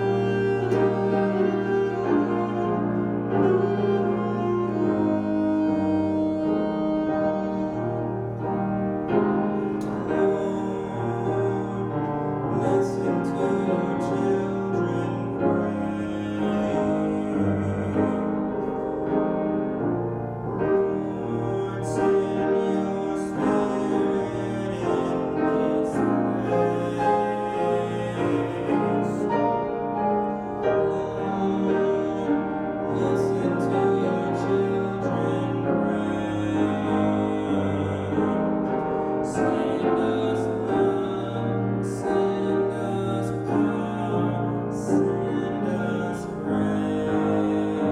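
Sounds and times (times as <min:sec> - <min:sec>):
piano chords: 0:00.0 - 0:47.9.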